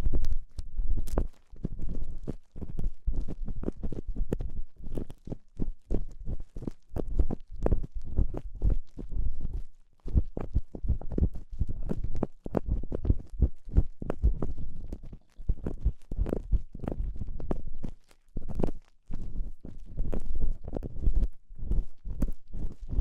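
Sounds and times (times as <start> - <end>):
ear pick scratching microphone: 0.0 - 23.0.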